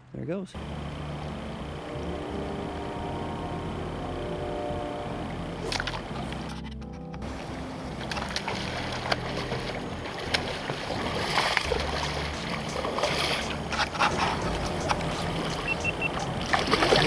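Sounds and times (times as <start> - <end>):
river water moving: 0.6 - 17.0.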